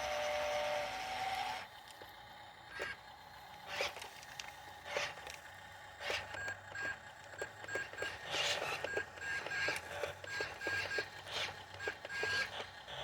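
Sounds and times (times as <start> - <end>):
faint low engine hum: 0.0 - 13.0.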